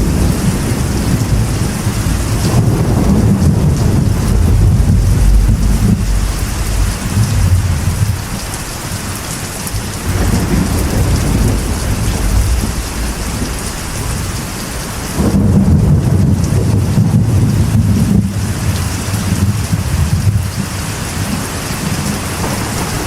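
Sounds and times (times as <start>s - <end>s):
rain on a metal roof: 0.0s - 23.0s
thunder rumbling: 0.0s - 23.0s.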